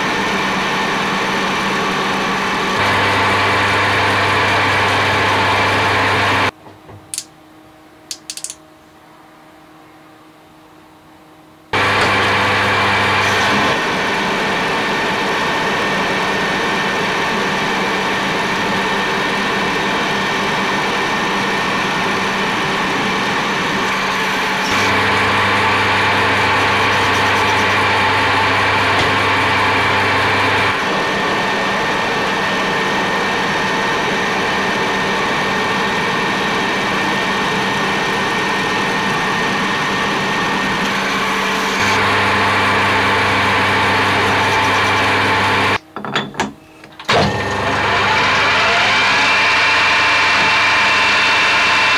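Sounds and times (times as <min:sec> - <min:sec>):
lathe hum and whine: 0:00.0 - 0:06.8, 0:08.8 - 0:51.9.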